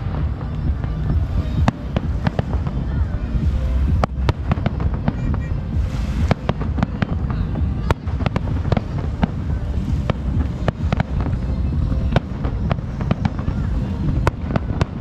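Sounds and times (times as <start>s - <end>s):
continuous low rumble: 0.0s - 15.0s.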